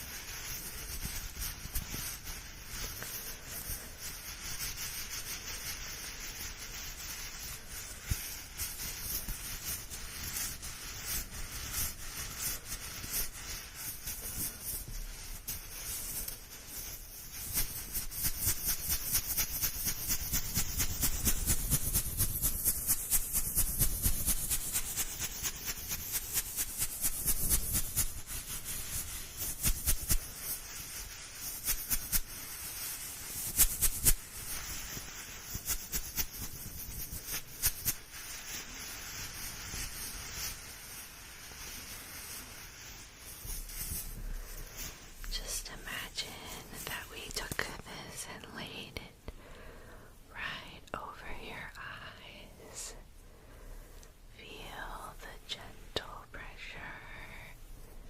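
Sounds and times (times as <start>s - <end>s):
fast rubbing strokes with hiss: 0.0s - 49.3s, 50.1s - 58.0s.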